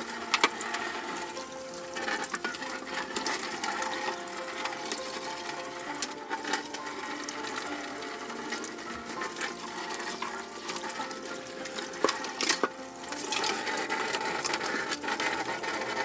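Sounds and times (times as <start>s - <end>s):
water running and splashing: 0.0s - 16.0s.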